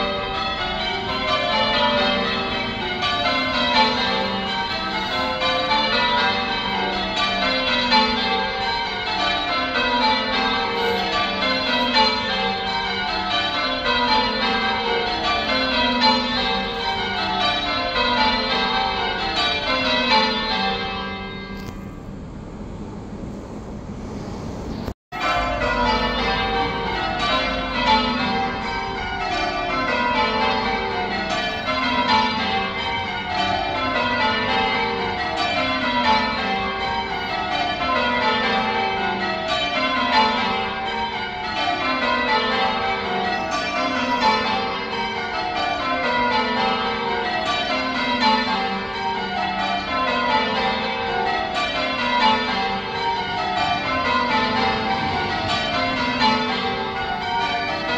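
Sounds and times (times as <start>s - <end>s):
church bells ringing: 0.0s - 22.7s, 25.1s - 57.9s.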